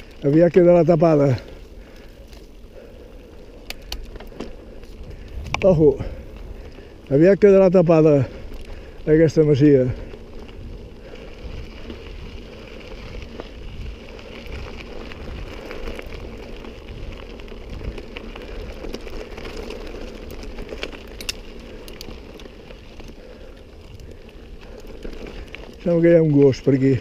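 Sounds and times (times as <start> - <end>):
bike tyres crunching on gravel: 0.0 - 27.0.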